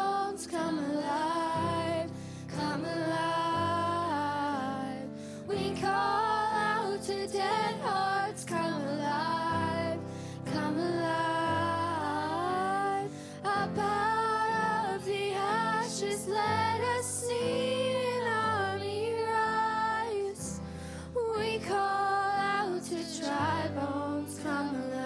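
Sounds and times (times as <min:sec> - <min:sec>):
woman singing worship song: 0:00.0 - 0:25.0.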